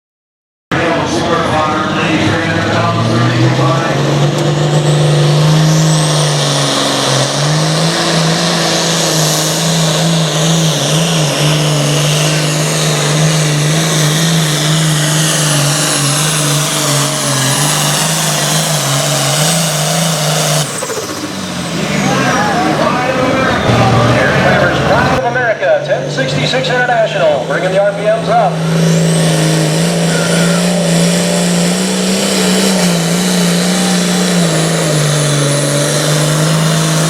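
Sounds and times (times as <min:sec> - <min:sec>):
high turbo whine: 0:00.7 - 0:37.0
tractor diesel engine at high revs: 0:00.7 - 0:37.0.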